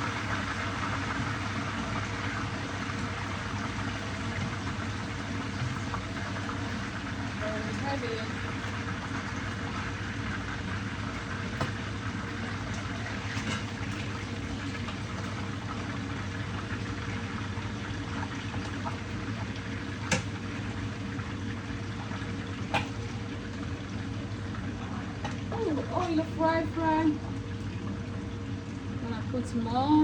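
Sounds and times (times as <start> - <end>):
fish sizzling in hot oil: 0.0 - 27.1
low steady hum: 0.0 - 30.0.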